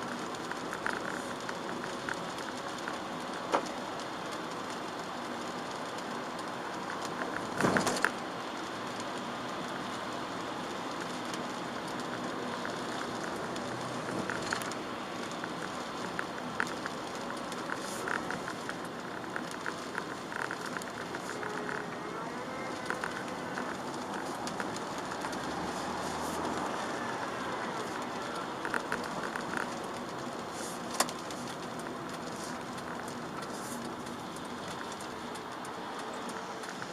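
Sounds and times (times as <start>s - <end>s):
car engine: 0.0s - 36.9s
rain on car: 0.0s - 36.9s
wet-road tyre noise: 0.0s - 36.9s.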